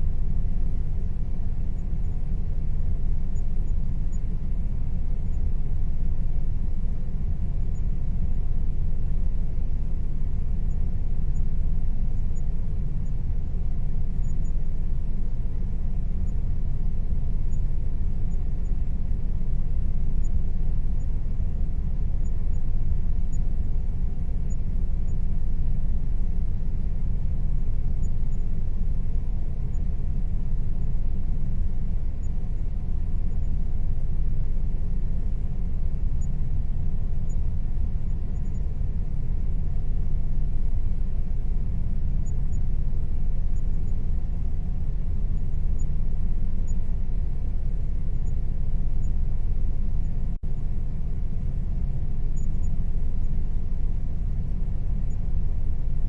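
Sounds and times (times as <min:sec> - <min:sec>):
air conditioner rumble: 0:00.0 - 0:56.0
faint steady hum: 0:00.0 - 0:56.0.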